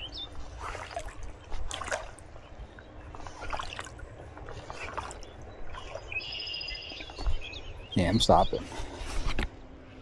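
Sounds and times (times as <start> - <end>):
legs wading through water: 0.0 - 9.2.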